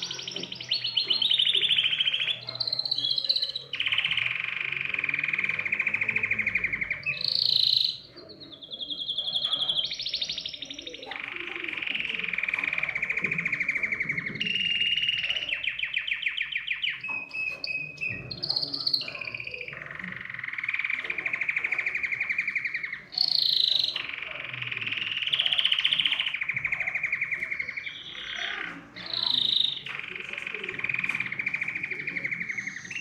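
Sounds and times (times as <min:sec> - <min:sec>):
canary singing trills: 0:00.0 - 0:33.0.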